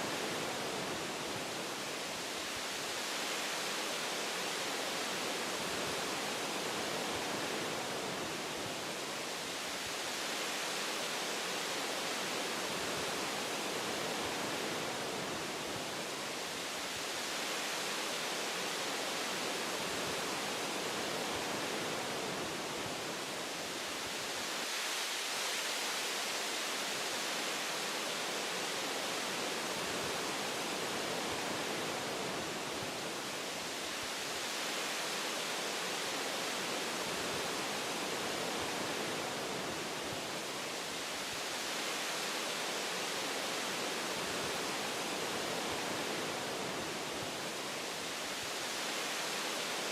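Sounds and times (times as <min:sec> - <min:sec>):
wind through tree branches: 0:00.0 - 0:49.9.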